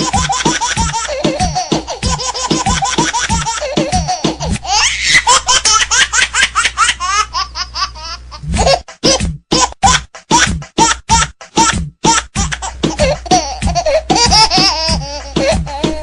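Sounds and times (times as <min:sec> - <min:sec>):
music backing: 0:00.0 - 0:06.1, 0:08.4 - 0:16.0
high-pitched baby-like laughter: 0:00.0 - 0:16.0.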